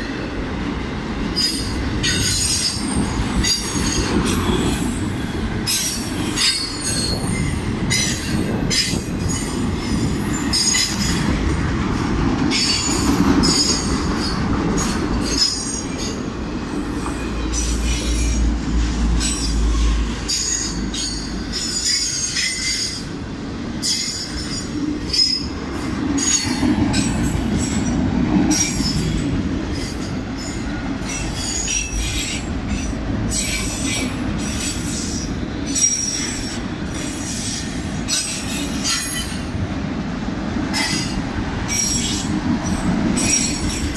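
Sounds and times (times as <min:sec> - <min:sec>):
freight train rumble: 0:00.0 - 0:43.9.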